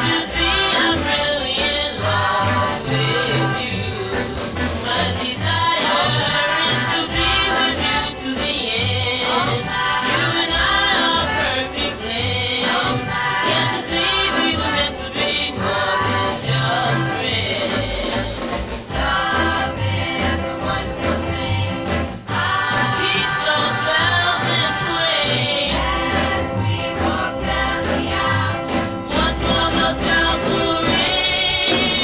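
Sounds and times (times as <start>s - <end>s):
instrumental pop backing: 0.0s - 32.0s
steady low bass line: 0.0s - 32.0s
women singing in harmony: 0.0s - 32.0s.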